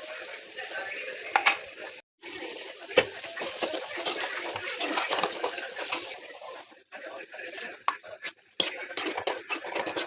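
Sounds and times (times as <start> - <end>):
steady cooking hiss: 0.0 - 10.0.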